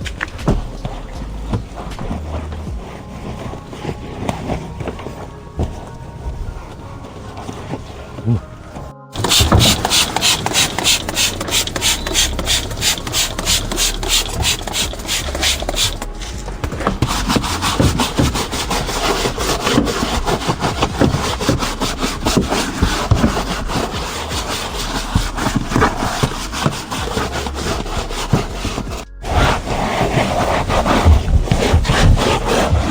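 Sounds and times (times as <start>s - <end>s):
brush scrubbing: 0.1s - 8.2s, 9.2s - 32.9s.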